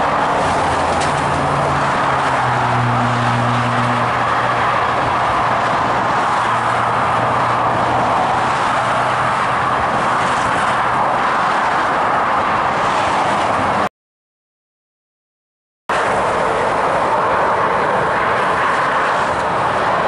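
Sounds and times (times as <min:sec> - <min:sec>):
motorway traffic passing: 0:00.0 - 0:13.9, 0:15.9 - 0:20.0.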